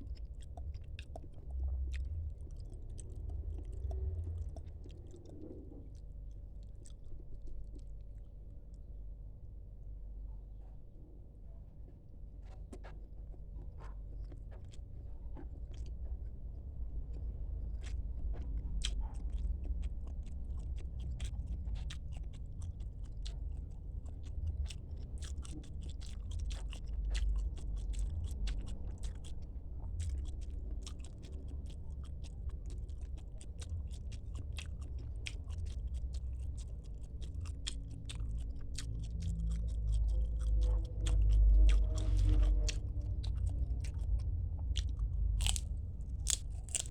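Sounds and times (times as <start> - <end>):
wet mouth sounds: 0.0 - 8.3, 17.2 - 46.9
close chewing and crunching: 0.0 - 9.6, 11.8 - 46.9.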